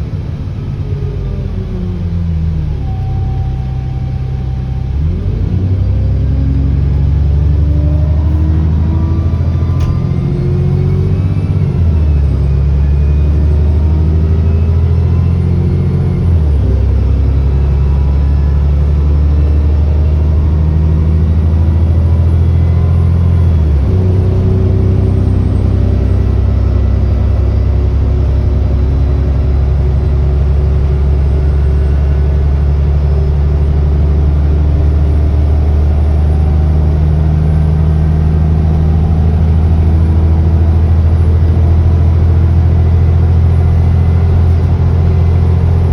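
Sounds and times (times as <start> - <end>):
bus engine drone: 0.0 - 45.9
high-pitched turbo whine: 0.0 - 45.9.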